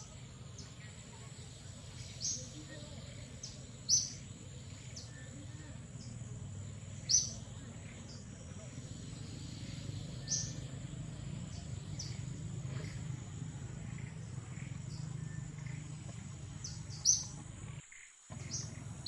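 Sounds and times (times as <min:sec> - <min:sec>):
bird chirps: 0:00.0 - 0:19.0
high-pitched insect tone: 0:00.0 - 0:19.0
steady low hum: 0:00.0 - 0:19.0.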